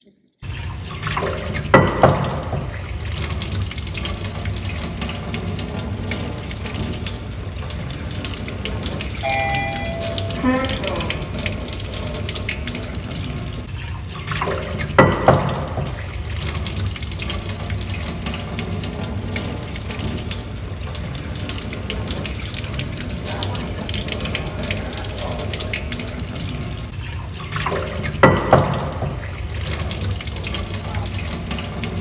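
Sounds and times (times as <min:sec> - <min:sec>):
tap water running into sink: 0:00.4 - 0:32.0.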